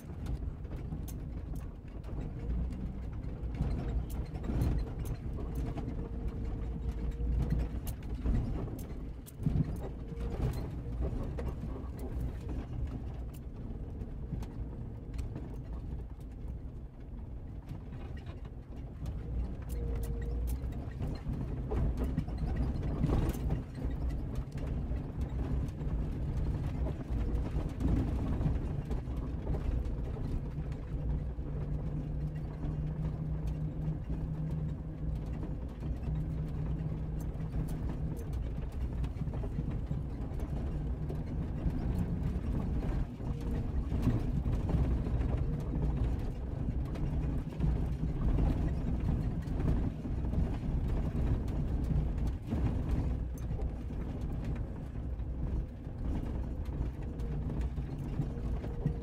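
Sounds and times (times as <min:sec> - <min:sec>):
engine running at low revs: 0:00.0 - 0:59.0
vehicle knocks and rattles: 0:00.0 - 0:59.0.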